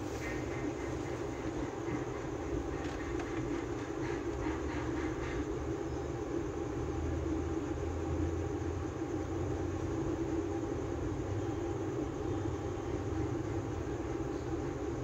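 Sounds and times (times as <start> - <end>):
low background hum and rumble: 0.0 - 15.0.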